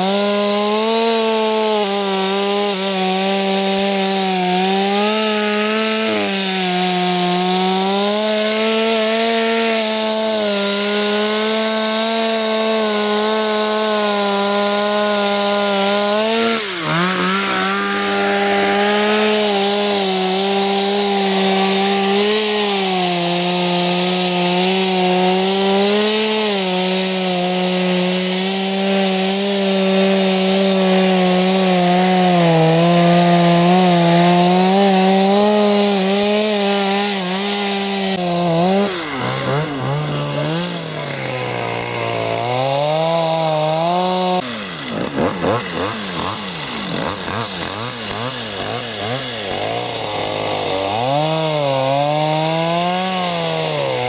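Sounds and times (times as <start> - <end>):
chainsaw cutting into ice: 0.0 - 54.0.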